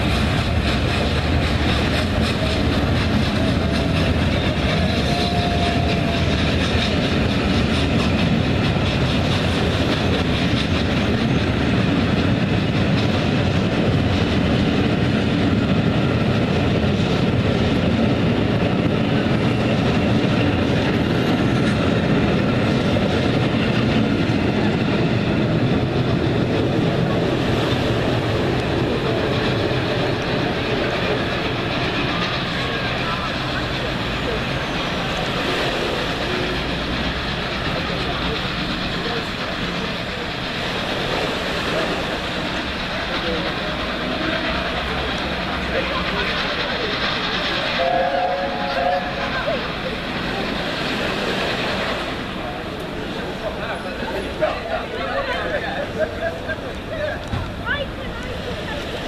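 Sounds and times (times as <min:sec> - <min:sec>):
train coaches rolling on track: 0:00.0 - 0:59.0.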